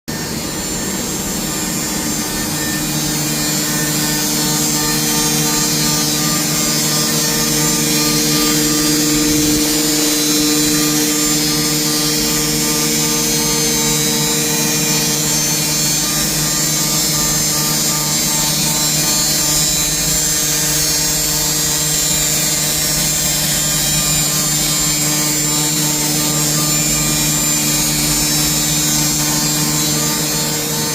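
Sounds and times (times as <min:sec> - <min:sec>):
milling machine spindle hum: 0:00.1 - 0:30.9.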